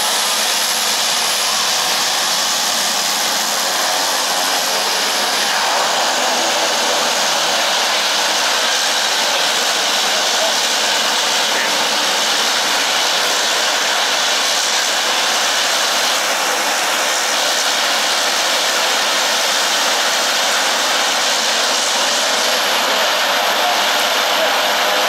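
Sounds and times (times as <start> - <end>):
turboprop engines running: 0.0 - 25.0.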